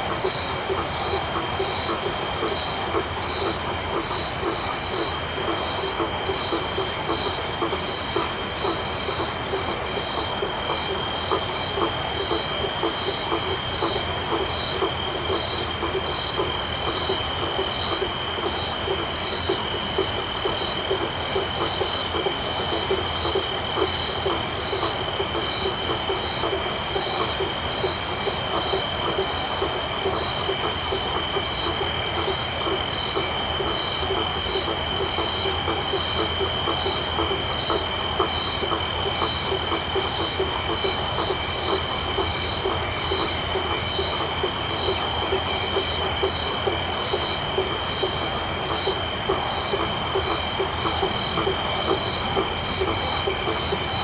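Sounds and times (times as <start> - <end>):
frogs chattering: 0.0 - 54.0
insects trilling: 0.0 - 54.0
pulsed insect call: 0.0 - 54.0.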